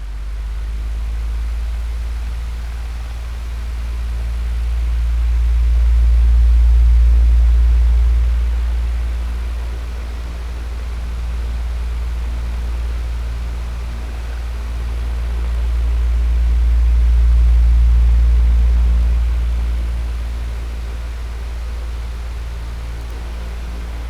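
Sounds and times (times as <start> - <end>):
electric fan running: 0.0 - 24.0.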